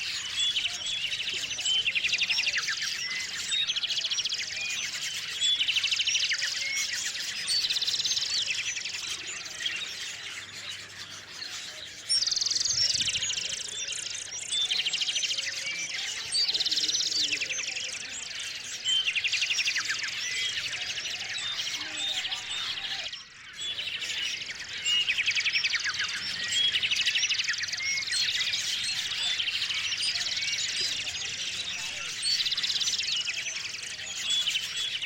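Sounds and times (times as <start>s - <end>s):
small songbirds chirping: 0.0s - 35.0s
trilled bird song: 0.0s - 35.0s.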